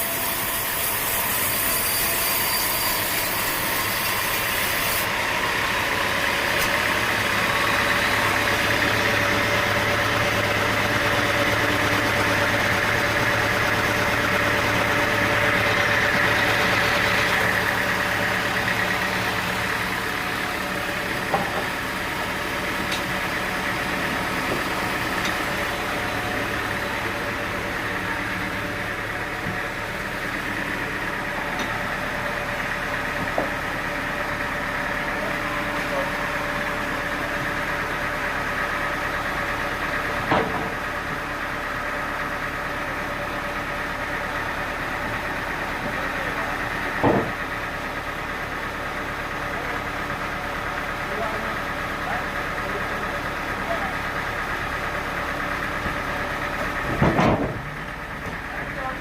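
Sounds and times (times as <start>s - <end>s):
sawmill machinery humming: 0.0s - 59.0s.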